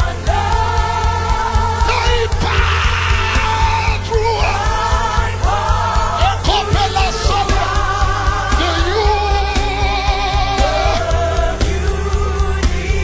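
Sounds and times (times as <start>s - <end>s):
band playing: 0.0s - 13.0s
drum strikes: 0.0s - 13.0s
person singing: 0.0s - 13.0s.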